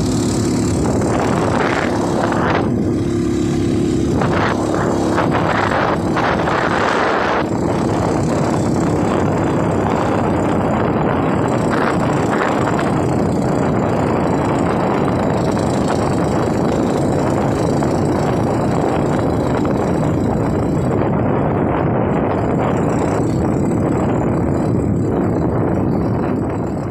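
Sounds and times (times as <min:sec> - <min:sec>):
motorcycle engine running: 0:00.0 - 0:26.9
road noise: 0:00.0 - 0:26.9.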